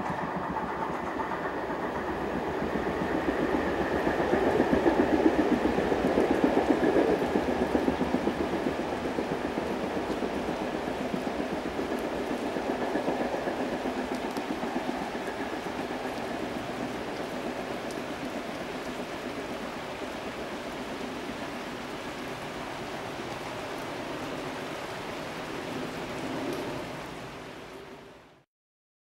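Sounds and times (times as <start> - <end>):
steady rain falling: 0.0 - 28.4.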